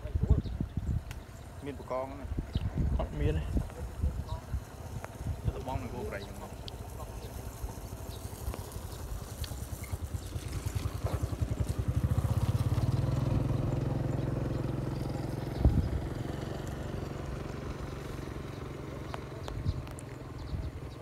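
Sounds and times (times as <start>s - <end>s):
small engine puttering: 3.0s - 21.0s.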